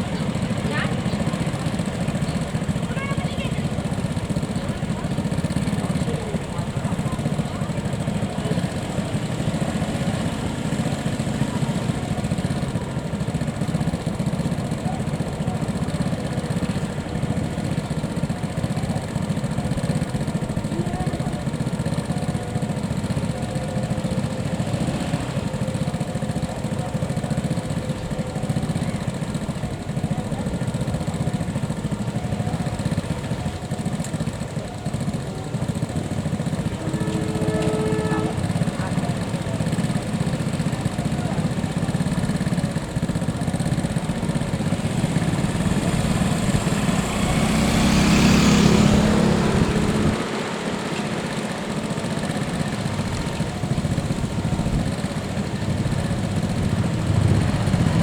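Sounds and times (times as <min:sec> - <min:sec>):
engines idling: 0:00.0 - 0:58.0
faint voices: 0:00.0 - 0:58.0.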